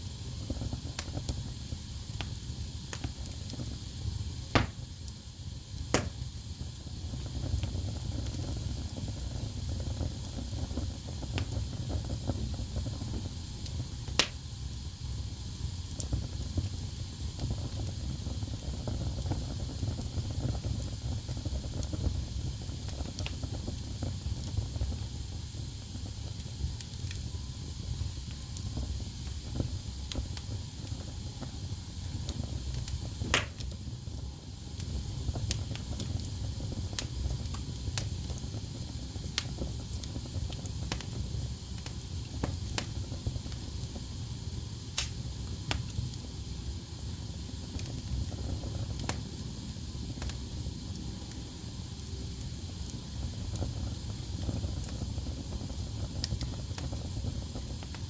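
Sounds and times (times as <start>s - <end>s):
fire crackling: 0.0s - 58.0s
wood fire rumbling and hissing: 0.0s - 58.0s
sharp pops of burning wood: 0.3s - 14.8s, 15.8s - 25.0s, 28.0s - 34.2s, 34.8s - 44.0s, 44.8s - 46.3s, 47.4s - 49.5s, 50.1s - 58.0s.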